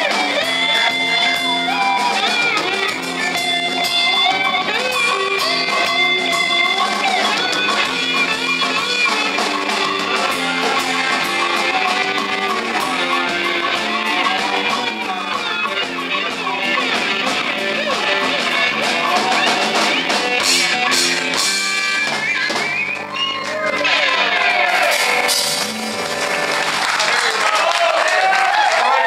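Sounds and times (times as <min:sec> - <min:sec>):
electric guitar lead with bends: 0:00.0 - 0:26.8
live rock band playing: 0:00.0 - 0:29.0.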